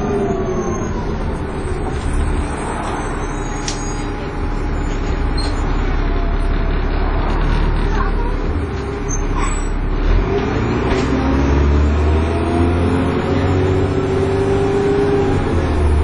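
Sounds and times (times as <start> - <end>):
bus engine and road drone: 0.0 - 16.0.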